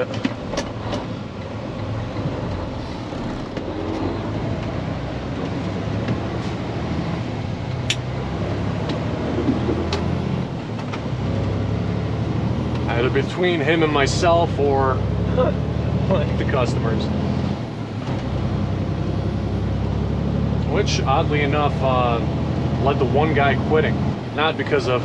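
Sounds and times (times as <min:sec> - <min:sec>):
diesel truck engine running: 0:00.0 - 0:25.0
road noise: 0:00.0 - 0:25.0.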